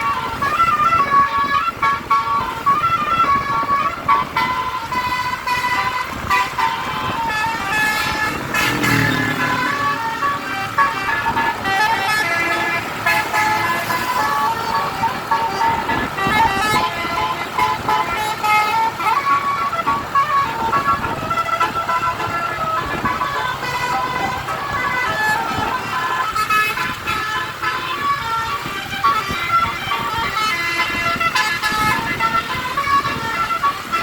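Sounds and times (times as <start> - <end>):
musical air horn playing a tune: 0.0 - 34.0.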